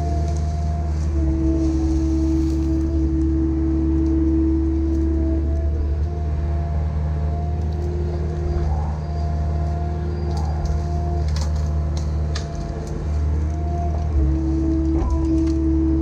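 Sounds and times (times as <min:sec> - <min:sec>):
excavator engine rumbling: 0:00.0 - 0:16.0
machine whine: 0:00.0 - 0:16.0.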